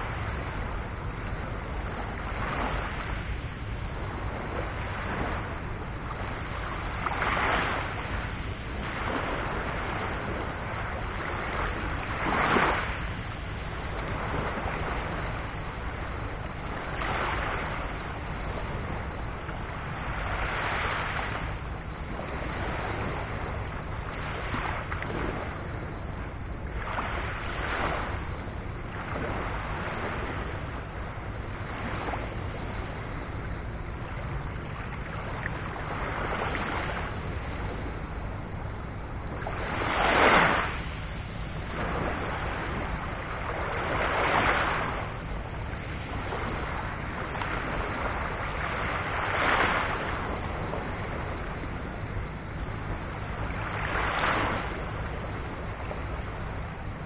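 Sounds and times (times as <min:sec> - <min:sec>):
small waves breaking on shore: 0:00.0 - 0:57.0
wind rumble on microphone: 0:00.0 - 0:57.0.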